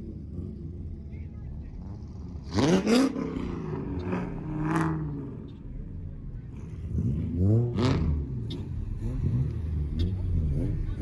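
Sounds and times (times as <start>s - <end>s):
low engine rumble: 0.0s - 11.0s
car engine revving: 1.6s - 5.9s, 6.5s - 11.0s.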